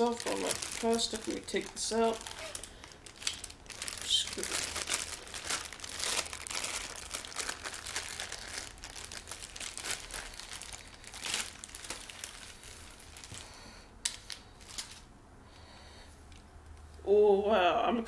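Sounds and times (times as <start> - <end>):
plastic packaging crinkling: 0.0 - 15.1.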